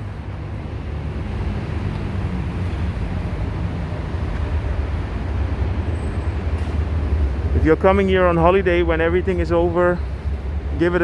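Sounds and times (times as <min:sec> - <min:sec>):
engine hum: 0:00.0 - 0:11.0
road traffic rumble: 0:00.0 - 0:11.0.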